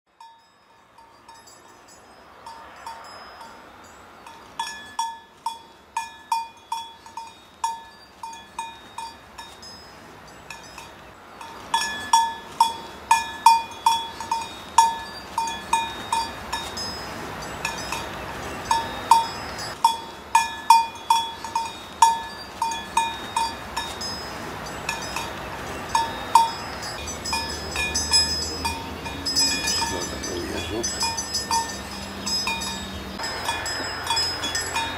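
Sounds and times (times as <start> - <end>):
cowbell clanking: 0.1 - 34.9
steady rushing hiss: 1.0 - 34.9.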